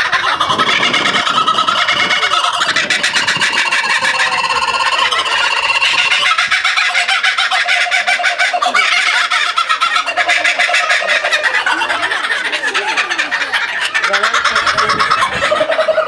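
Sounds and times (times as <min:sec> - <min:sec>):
kookaburra laughing call: 0:00.0 - 0:16.0.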